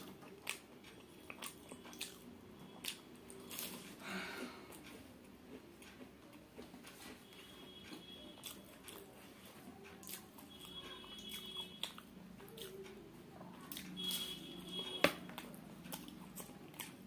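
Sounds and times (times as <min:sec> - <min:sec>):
chewing crunchy food: 0:00.0 - 0:04.0, 0:04.6 - 0:17.0.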